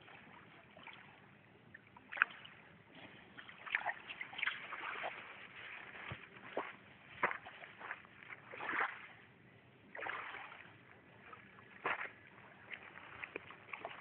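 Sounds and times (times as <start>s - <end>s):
water lapping on pebble shore: 2.0s - 9.2s, 9.9s - 14.0s.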